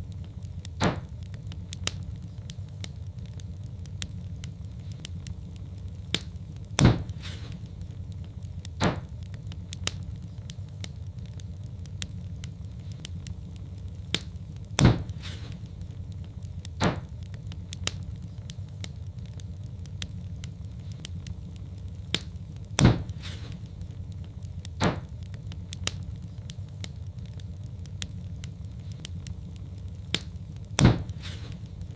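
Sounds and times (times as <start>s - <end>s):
fire pops and snaps: 0.0s - 31.9s
log fire crackling: 0.0s - 31.9s.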